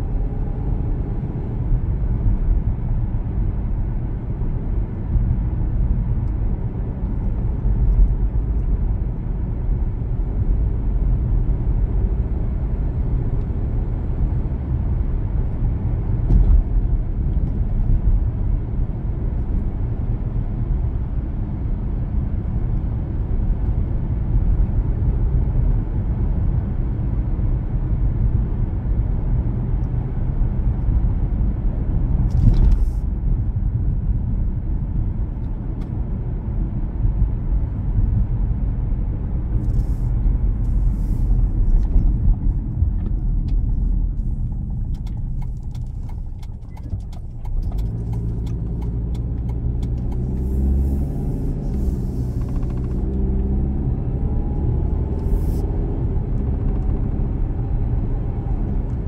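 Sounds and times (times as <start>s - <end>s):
car driving rumble: 0.0s - 59.0s.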